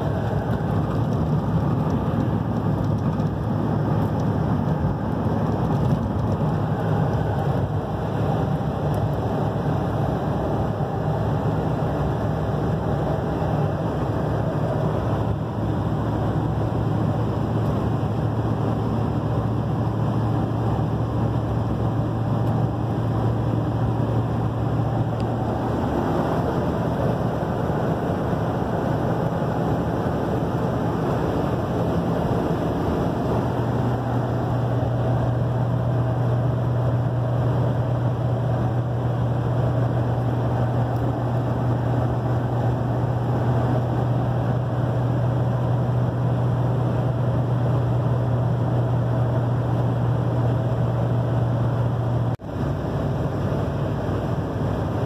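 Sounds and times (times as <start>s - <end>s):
tyre road noise: 0.0s - 55.0s
vehicle engine drone: 0.0s - 55.0s.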